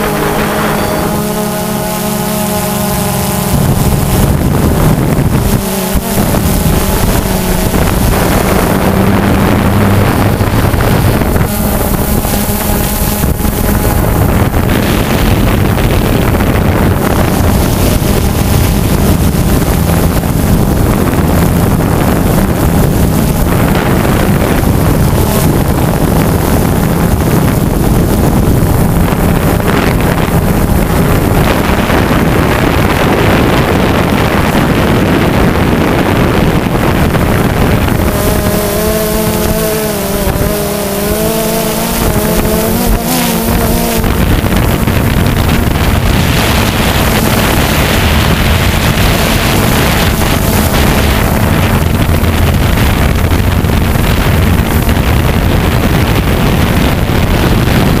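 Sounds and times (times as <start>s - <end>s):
drone motors and propellers whirring: 0.0s - 58.0s
wind rushing over microphone: 0.0s - 58.0s.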